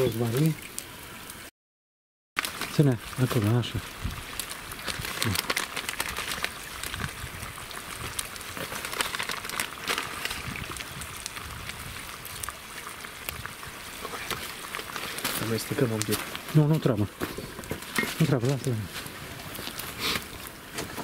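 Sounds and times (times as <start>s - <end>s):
fire crackling: 0.0s - 1.5s, 2.4s - 21.0s
pot sizzling on embers: 0.0s - 1.5s, 2.4s - 21.0s.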